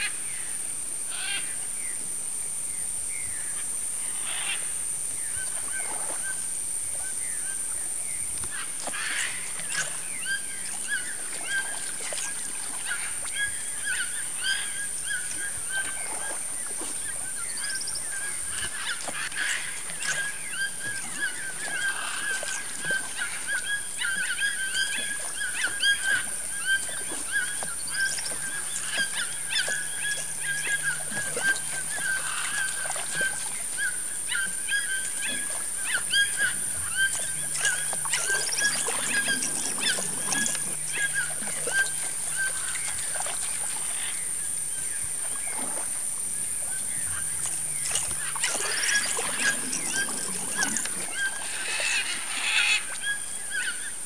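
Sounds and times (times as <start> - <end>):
animal calls chorus: 1.1 - 1.6, 3.6 - 7.7, 8.4 - 54.0.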